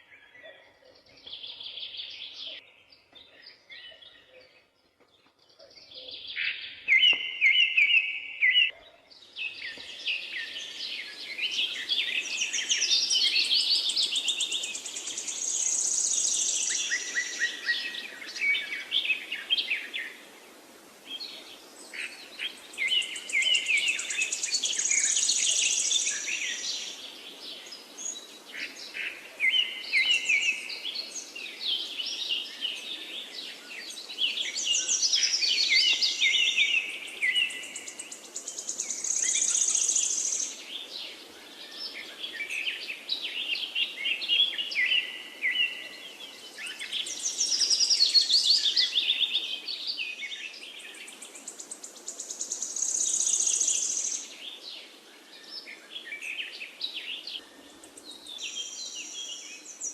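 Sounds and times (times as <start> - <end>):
songbirds singing and chirping: 0.0 - 59.9
faint steady hiss: 9.1 - 59.9.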